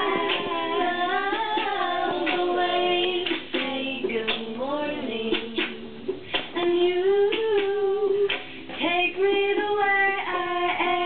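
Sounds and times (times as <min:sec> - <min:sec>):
girl singing a pop song: 0:00.0 - 0:11.0.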